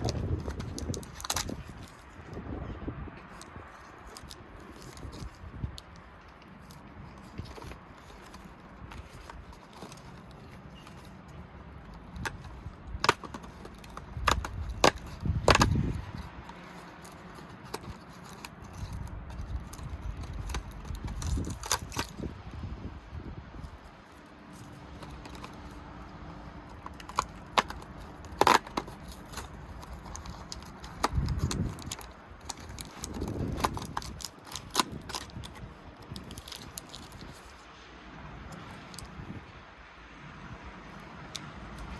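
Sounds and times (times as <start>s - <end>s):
plastic pieces snapping: 0.0s - 2.3s, 3.3s - 22.3s, 23.6s - 37.6s
packaging clicking and crinkling: 0.0s - 2.4s, 3.2s - 22.5s, 23.5s - 37.6s, 41.0s - 41.9s.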